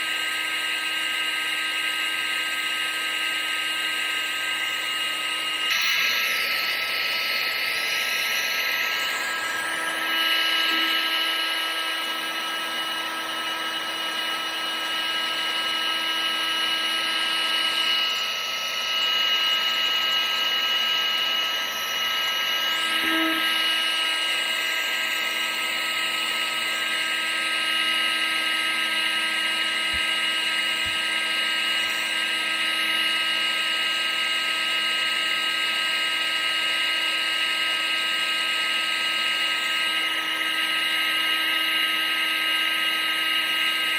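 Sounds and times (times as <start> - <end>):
vacuum cleaner motor running: 0.0 - 43.9.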